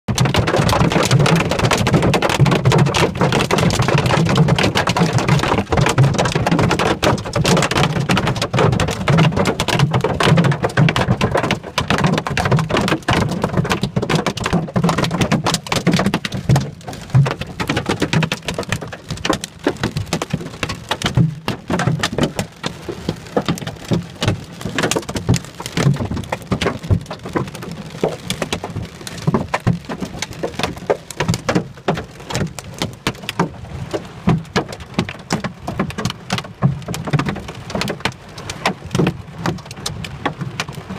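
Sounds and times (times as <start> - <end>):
hail pelting car roof: 0.1 - 40.9.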